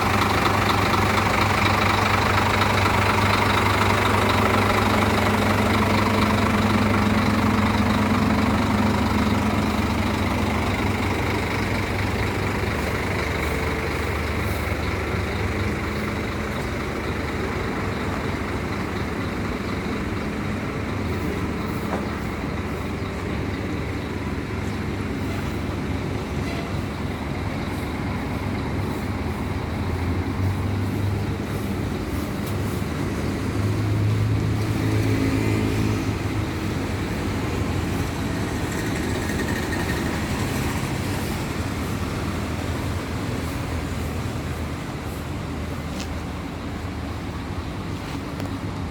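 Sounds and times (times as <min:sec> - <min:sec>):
heavy bus engine running: 0:00.0 - 0:48.9
traffic noise: 0:00.0 - 0:48.9.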